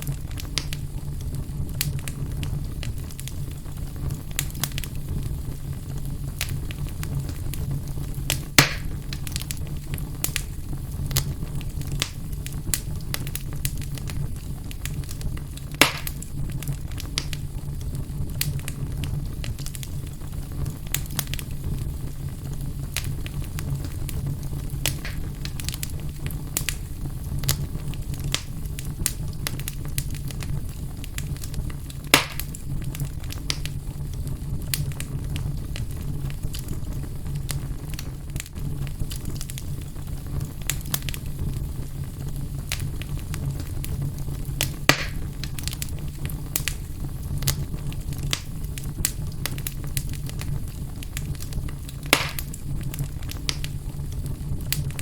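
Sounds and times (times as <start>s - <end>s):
fire crackling and popping: 0.0s - 55.0s
loud fire snaps: 0.0s - 55.0s.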